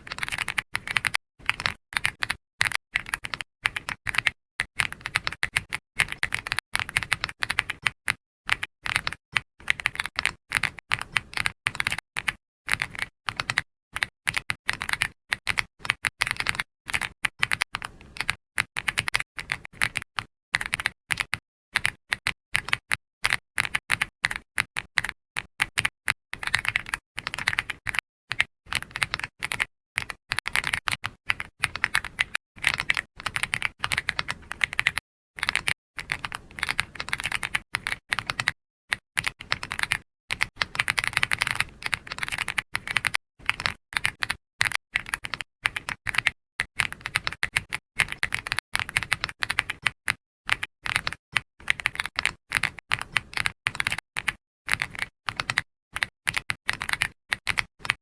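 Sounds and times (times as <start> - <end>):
computer keyboard typing: 0.0 - 58.0.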